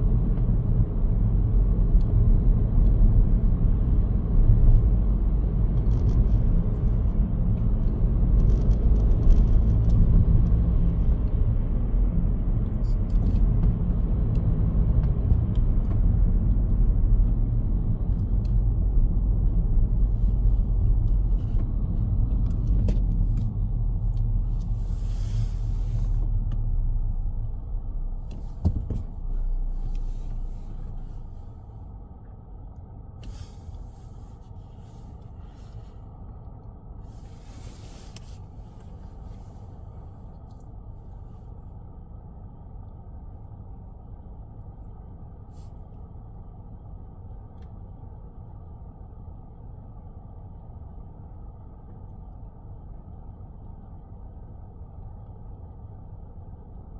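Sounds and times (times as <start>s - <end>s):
car road rumble: 0.0s - 56.9s.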